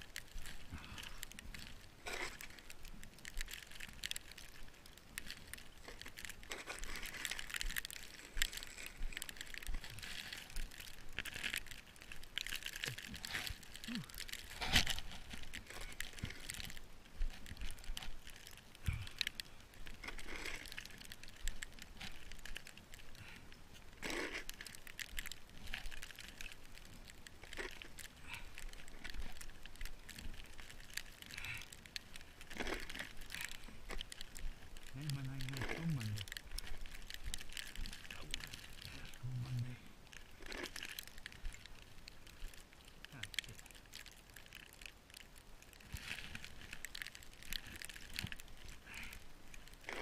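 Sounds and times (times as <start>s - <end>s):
snow crunching: 0.0s - 50.0s.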